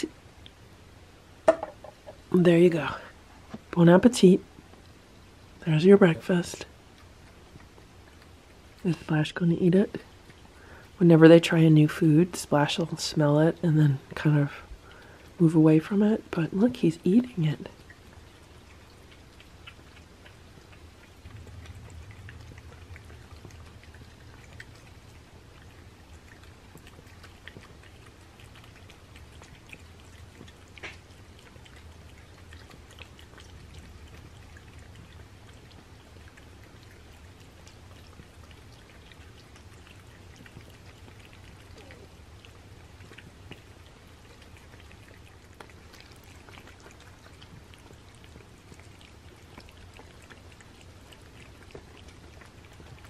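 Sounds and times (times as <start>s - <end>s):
cats licking and chewing: 0.0s - 53.0s
low steady hum: 0.0s - 53.0s.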